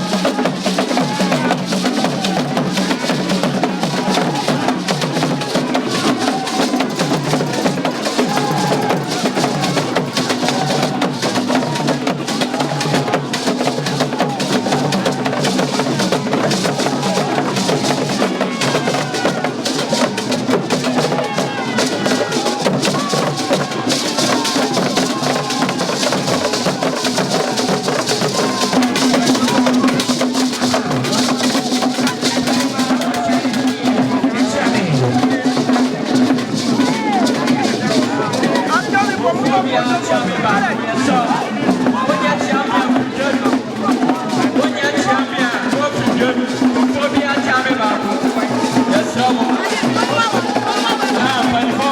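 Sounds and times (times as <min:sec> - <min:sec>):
drums and knocking percussion: 0:00.0 - 0:51.9.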